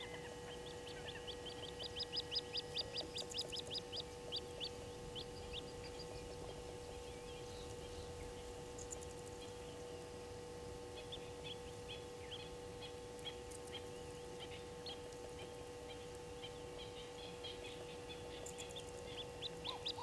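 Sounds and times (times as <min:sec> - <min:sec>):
birds chirping: 0:00.0 - 0:20.0
faint hum: 0:00.0 - 0:20.0.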